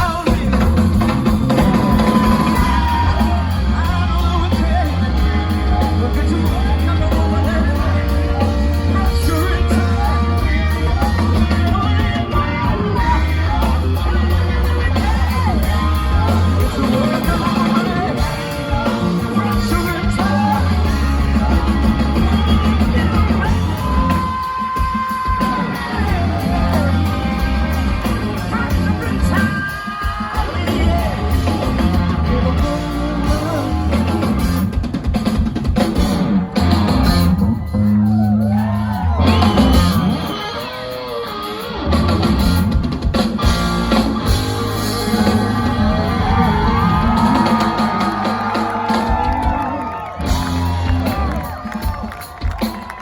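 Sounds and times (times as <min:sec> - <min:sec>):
person singing: 0:00.0 - 0:34.8, 0:43.4 - 0:53.0
rock band playing live: 0:00.0 - 0:53.0.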